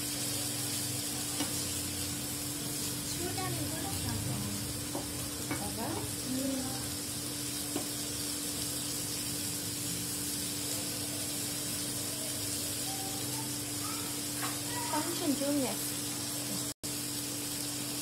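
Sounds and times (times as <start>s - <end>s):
prawns sizzling in hot oil: 0.0s - 18.0s.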